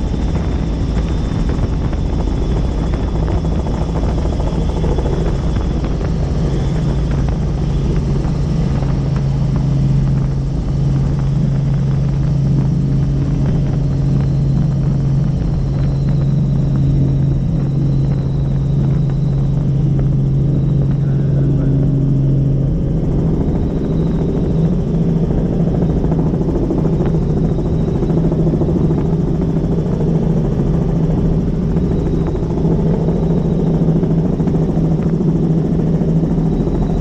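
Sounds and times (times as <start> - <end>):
helicopter rotor and engine noise: 0.0 - 37.0.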